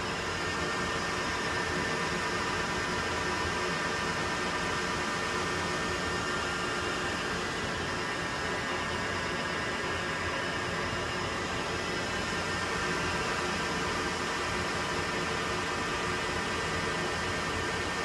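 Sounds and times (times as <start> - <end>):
lathe running: 0.1 - 18.0.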